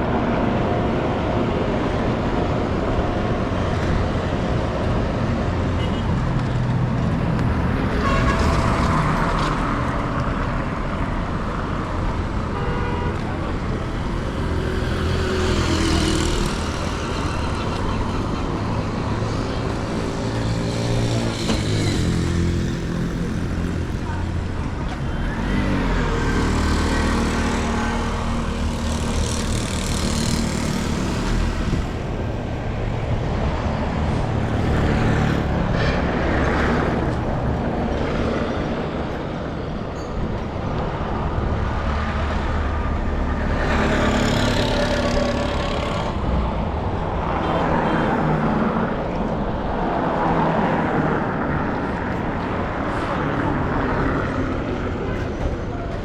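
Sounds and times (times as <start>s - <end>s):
traffic engines running: 0.0s - 56.0s
vehicles passing: 0.0s - 56.0s.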